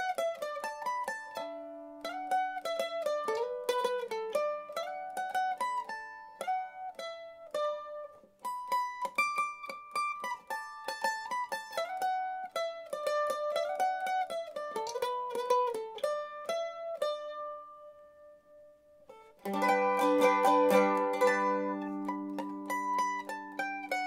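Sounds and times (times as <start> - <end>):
mandolin picked melody: 0.0 - 24.0.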